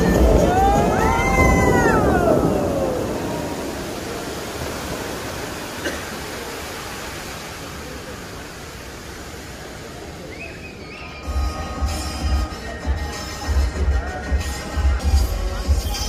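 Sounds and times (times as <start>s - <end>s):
fountain spray rushing: 0.0s - 16.0s.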